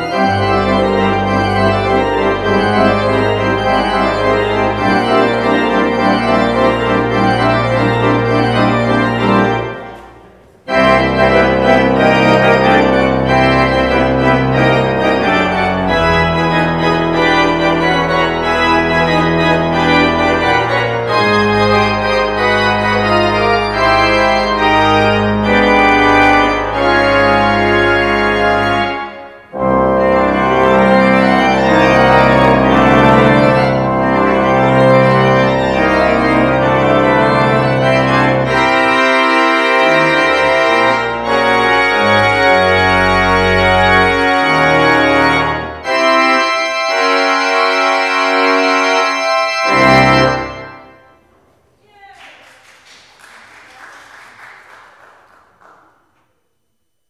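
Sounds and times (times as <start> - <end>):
church organ playing chords: 0.0 - 51.8.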